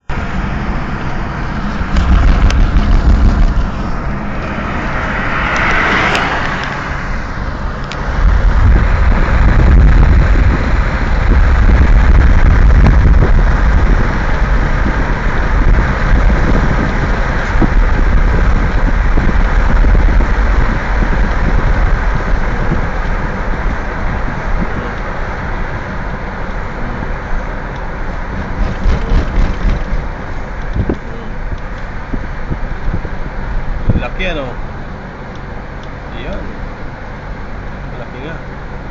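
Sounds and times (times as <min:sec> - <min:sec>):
strong wind buffeting microphone: 0:00.0 - 0:37.9.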